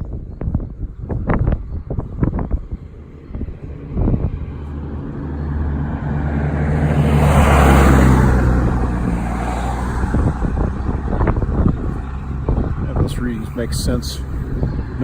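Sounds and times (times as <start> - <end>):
truck passing: 0.0 - 15.0.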